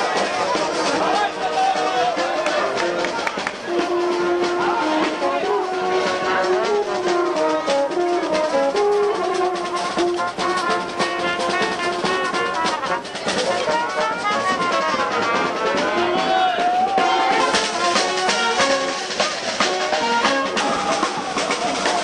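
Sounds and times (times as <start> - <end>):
brass instruments playing: 0.0 - 22.0.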